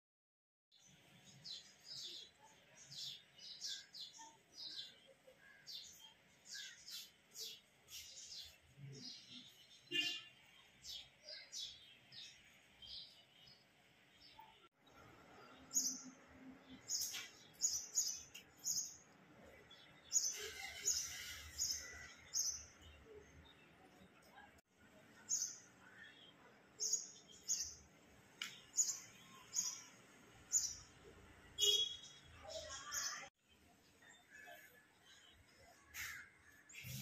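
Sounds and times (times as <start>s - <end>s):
bird chirping: 0.7s - 33.3s.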